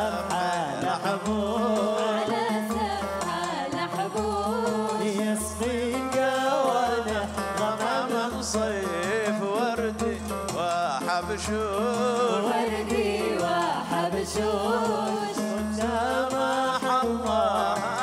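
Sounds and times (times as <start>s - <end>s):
person singing ornamented melody: 0.0s - 18.0s.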